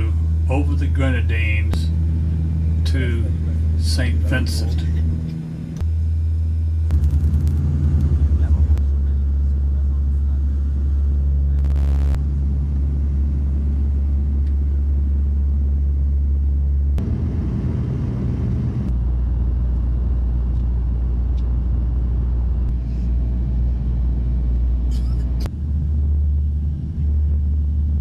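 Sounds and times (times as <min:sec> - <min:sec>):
aircraft cabin drone: 0:00.0 - 0:28.0.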